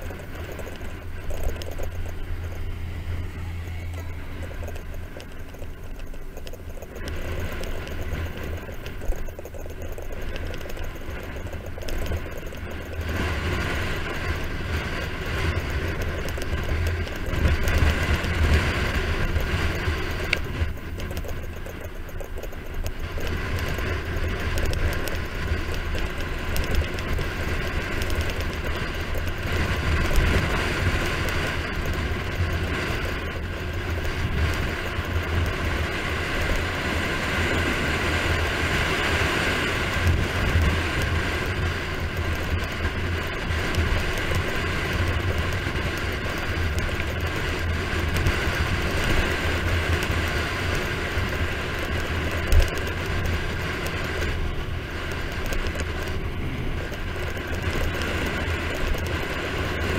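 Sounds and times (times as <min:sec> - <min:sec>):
tyres on asphalt: 0:00.0 - 0:59.9.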